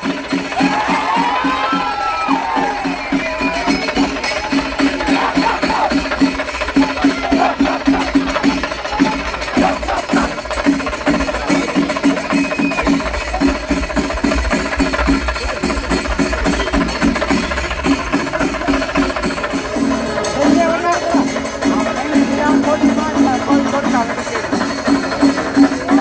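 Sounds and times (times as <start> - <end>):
rhythmic percussion music: 0.0 - 26.0.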